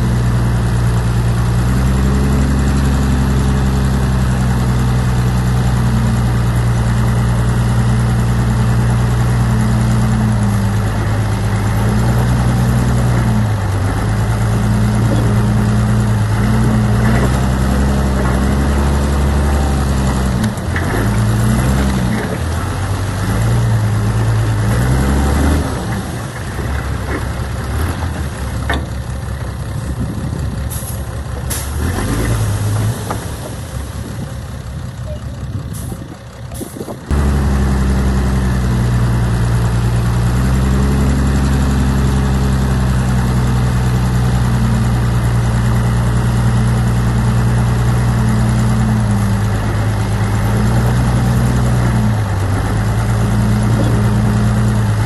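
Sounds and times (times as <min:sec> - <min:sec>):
heavy machine diesel engine: 0:00.0 - 0:55.0.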